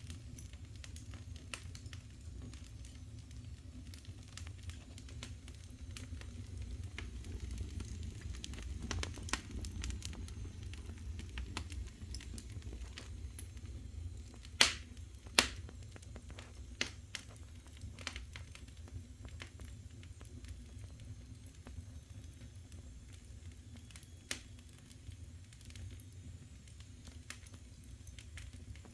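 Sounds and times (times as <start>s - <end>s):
fire crackling and popping: 0.0s - 28.9s
fire rumbling: 0.0s - 28.9s.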